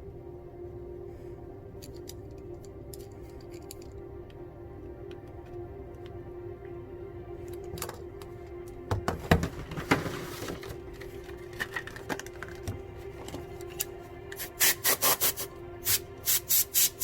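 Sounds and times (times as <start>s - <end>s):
low hum: 0.0s - 14.6s, 15.3s - 17.0s.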